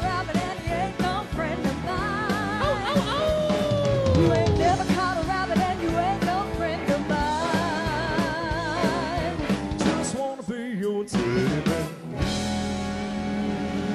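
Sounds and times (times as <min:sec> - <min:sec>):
live rock band: 0:00.0 - 0:13.9.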